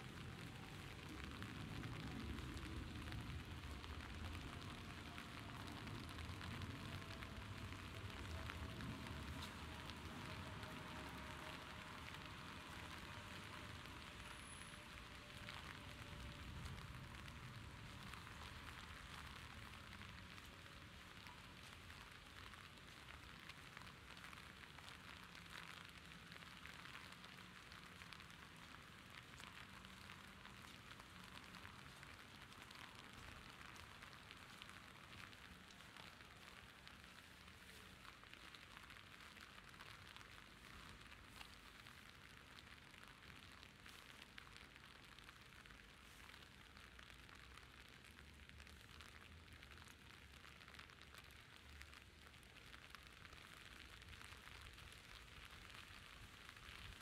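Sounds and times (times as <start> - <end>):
rain falling: 0.0 - 57.0
raindrops ticking: 0.0 - 57.0.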